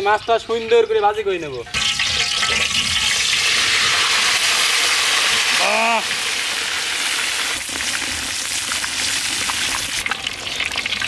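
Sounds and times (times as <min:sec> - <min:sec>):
fish deep-frying sizzle: 0:01.7 - 0:11.0.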